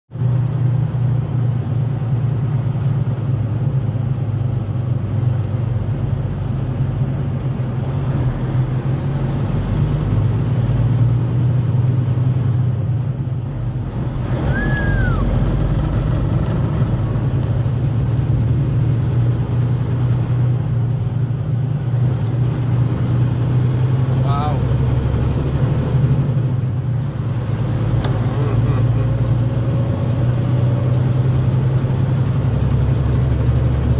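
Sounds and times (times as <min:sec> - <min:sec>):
vehicle engine and road noise: 0:00.1 - 0:33.9.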